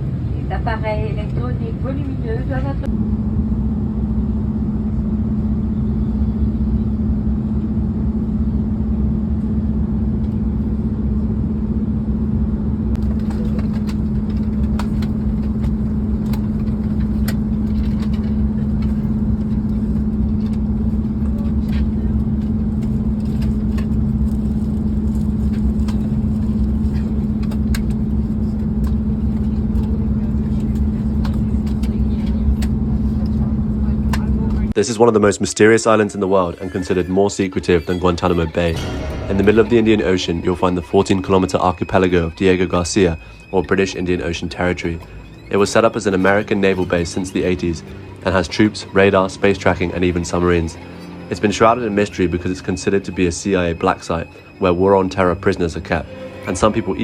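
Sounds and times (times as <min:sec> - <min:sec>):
airliner cabin engine drone: 0:00.0 - 0:57.0.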